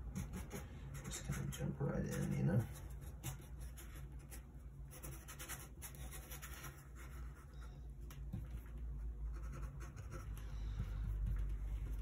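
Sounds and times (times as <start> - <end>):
brush scratching paint on panel: 0.0 - 12.0.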